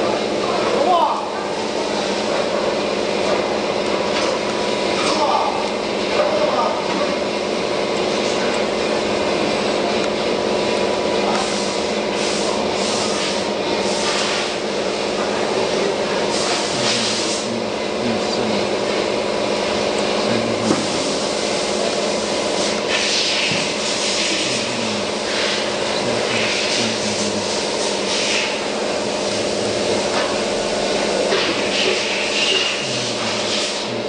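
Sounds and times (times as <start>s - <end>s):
machinery drone: 0.0s - 34.0s.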